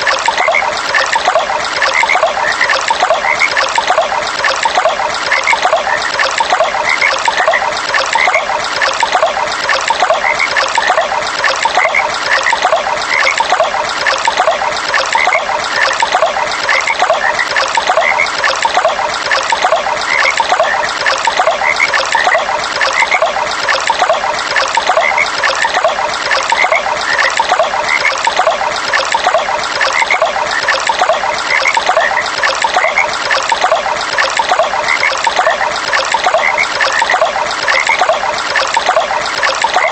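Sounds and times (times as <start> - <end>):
frogs calling: 0.0 - 39.9
water trickling: 0.0 - 39.9.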